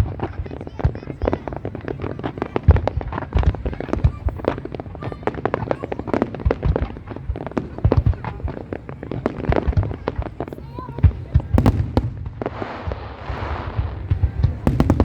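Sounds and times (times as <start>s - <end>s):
deep firework booms: 0.0s - 15.0s
fireworks bangs and crackles: 0.0s - 15.0s.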